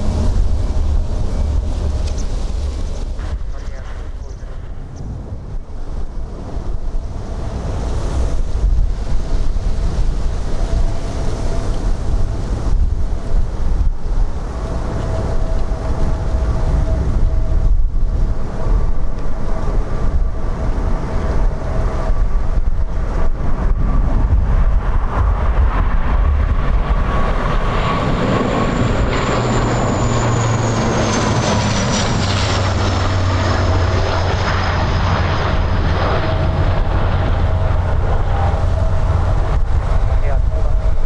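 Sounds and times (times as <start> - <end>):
high turbine whine: 0.0 - 41.0
jet airliner passing overhead: 0.0 - 41.0
wind buffeting microphone: 0.0 - 41.0.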